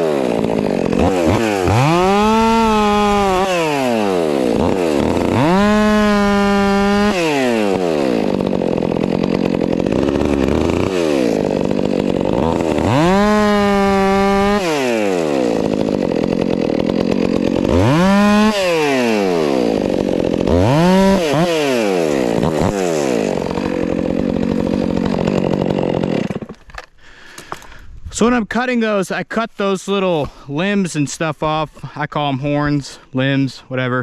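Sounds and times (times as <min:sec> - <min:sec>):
chainsaw cutting wood: 0:00.0 - 0:27.8.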